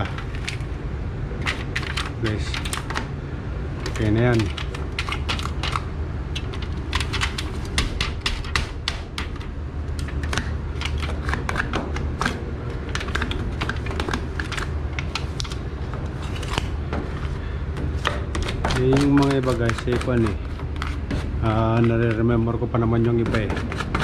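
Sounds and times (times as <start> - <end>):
rapid clicking and tapping: 1.4 - 3.1, 3.8 - 24.0.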